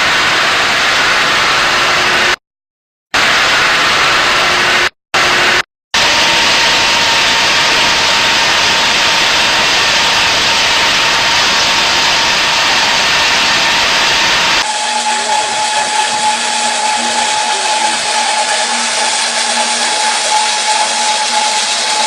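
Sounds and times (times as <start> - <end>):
wire saw cutting stone: 3.2 - 22.0.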